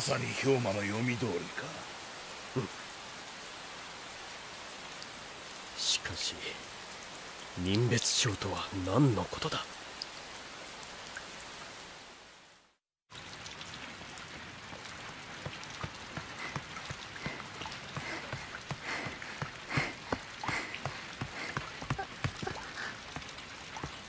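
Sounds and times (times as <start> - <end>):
rain drops falling: 0.0 - 24.0.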